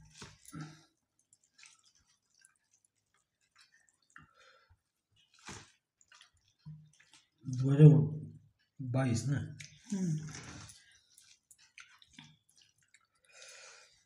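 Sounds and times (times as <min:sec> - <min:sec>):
chewing: 0:00.0 - 0:07.7, 0:09.5 - 0:14.0.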